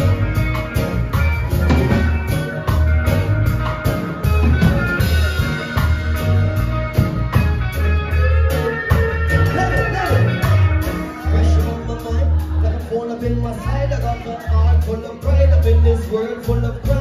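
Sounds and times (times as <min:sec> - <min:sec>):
bass line: 0:00.0 - 0:17.0
drum kit beat: 0:00.0 - 0:17.0
electric and acoustic guitars: 0:00.0 - 0:17.0.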